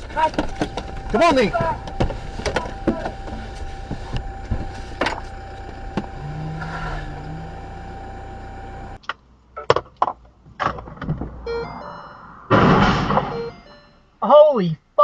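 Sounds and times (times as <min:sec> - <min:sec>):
car road and engine noise: 0:00.0 - 0:12.6.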